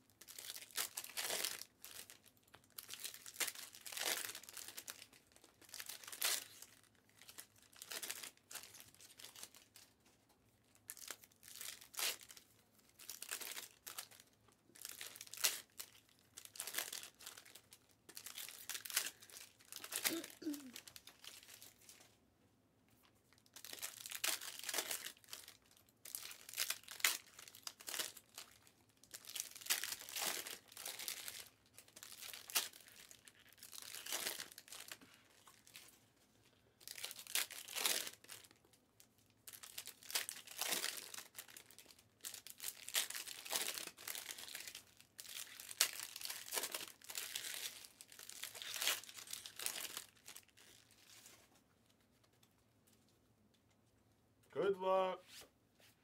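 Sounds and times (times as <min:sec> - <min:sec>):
card packs tearing open: 0:00.2 - 0:09.9, 0:10.9 - 0:14.2, 0:14.8 - 0:21.8, 0:23.6 - 0:35.0, 0:36.8 - 0:38.6, 0:39.5 - 0:51.1
wrappers crinkling: 0:00.2 - 0:22.1, 0:23.0 - 0:36.0, 0:36.8 - 0:53.2.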